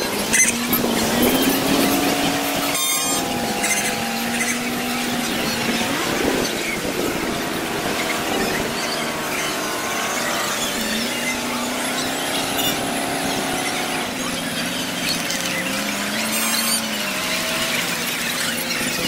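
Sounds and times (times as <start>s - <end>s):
sped-up squeaky chirps and whines: 0.0s - 19.0s.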